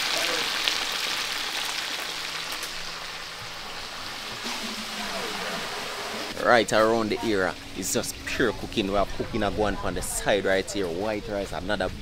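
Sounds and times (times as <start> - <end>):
food sizzling in hot oil: 0.0 - 10.4.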